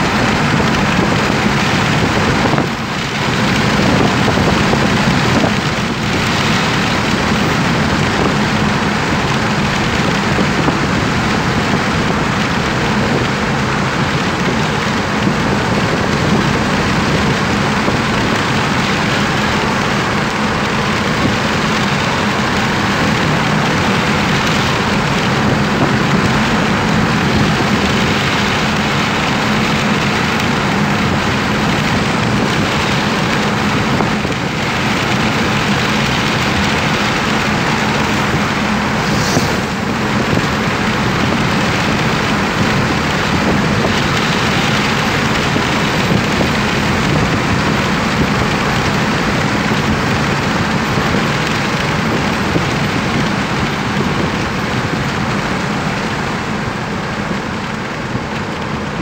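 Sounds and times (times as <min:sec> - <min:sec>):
rushing air: 0:00.0 - 0:59.0
tyres on asphalt: 0:00.0 - 0:59.0.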